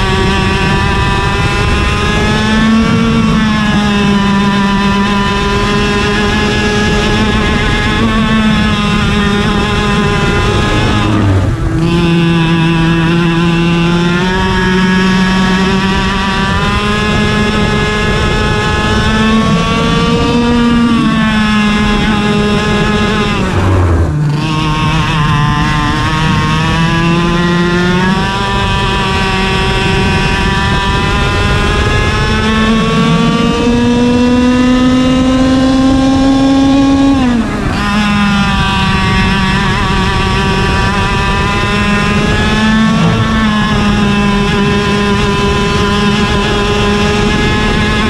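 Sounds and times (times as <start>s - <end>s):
kart engine at full throttle: 0.0s - 48.0s.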